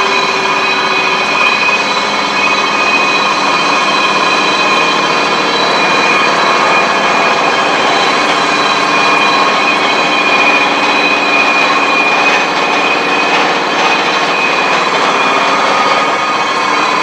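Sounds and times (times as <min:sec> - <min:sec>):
faint high whines: 0:00.0 - 0:17.0
hissing roar of hot cutting: 0:00.0 - 0:17.0.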